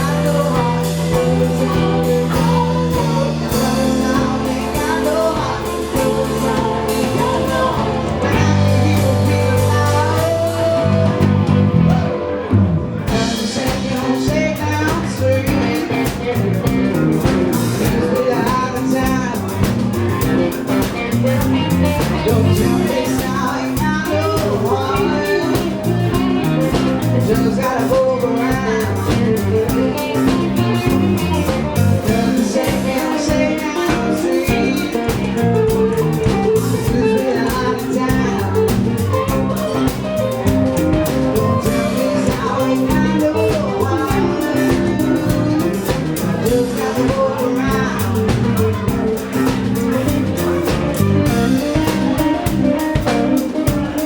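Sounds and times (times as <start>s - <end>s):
band playing blues rock: 0.0s - 54.0s
person singing: 0.0s - 54.0s.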